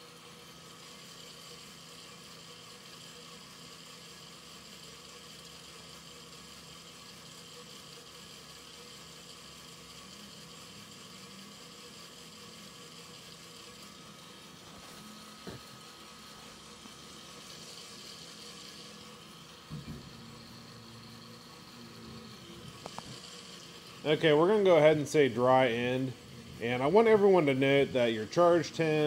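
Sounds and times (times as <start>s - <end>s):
coffee roaster whirring hum: 0.0s - 29.0s.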